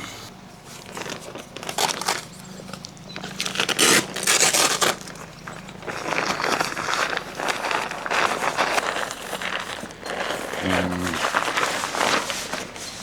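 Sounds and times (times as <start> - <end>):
rustling and crinkling handling: 0.4 - 13.0.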